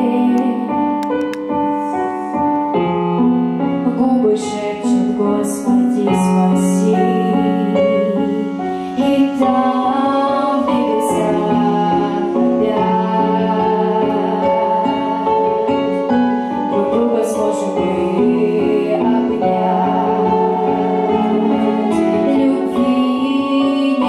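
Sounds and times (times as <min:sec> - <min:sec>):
girl singing into microphone: 0:00.0 - 0:01.2, 0:03.8 - 0:24.0
piano accompaniment: 0:00.0 - 0:24.0.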